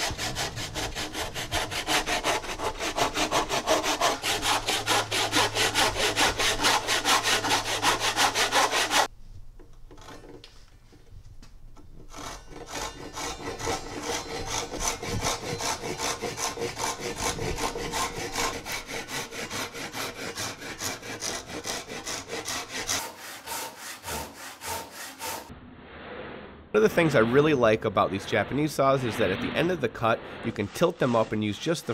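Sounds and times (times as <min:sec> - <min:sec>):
hand saw cutting wood: 0:00.0 - 0:09.1, 0:09.9 - 0:10.5, 0:12.0 - 0:25.5, 0:27.0 - 0:31.9.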